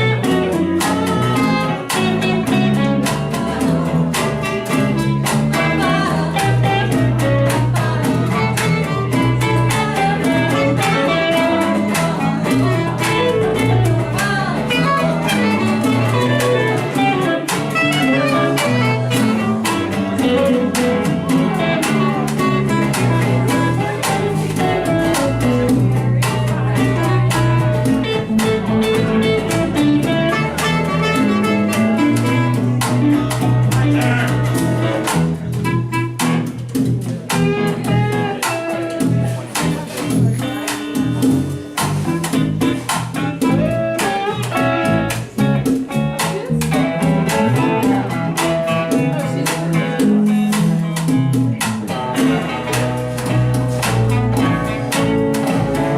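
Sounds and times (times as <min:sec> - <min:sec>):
band music with guitar and bass: 0:00.0 - 0:55.9.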